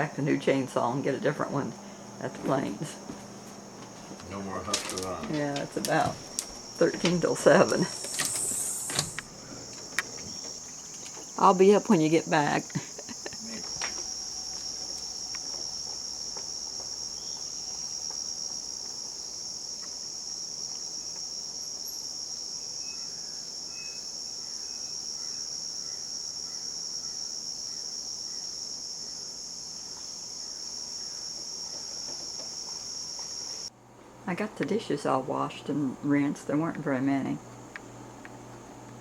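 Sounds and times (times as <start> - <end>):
crickets trilling: 0.0 - 33.7.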